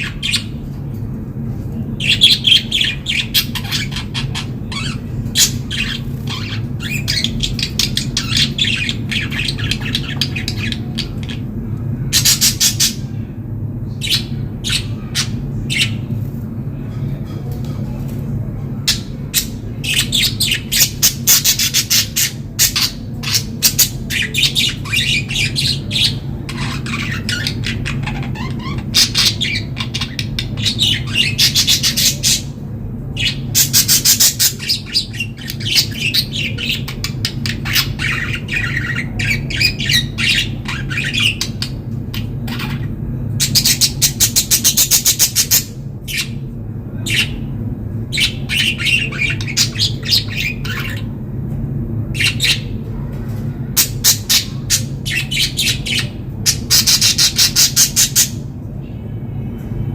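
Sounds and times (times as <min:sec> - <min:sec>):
budgerigars chirping: 0:00.0 - 0:00.6, 0:02.0 - 0:11.4, 0:12.2 - 0:13.1, 0:14.0 - 0:16.1, 0:18.9 - 0:32.5, 0:33.2 - 0:46.4, 0:47.0 - 0:47.5, 0:48.1 - 0:51.1, 0:52.2 - 0:52.7, 0:53.8 - 0:58.4
steady low hum: 0:00.0 - 0:59.9.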